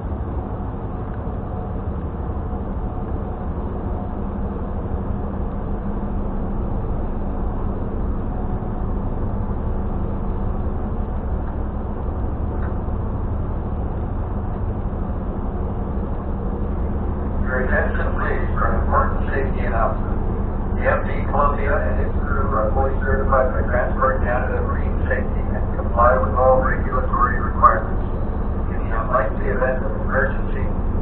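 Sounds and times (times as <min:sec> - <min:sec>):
ferry engines droning: 0:00.0 - 0:31.0.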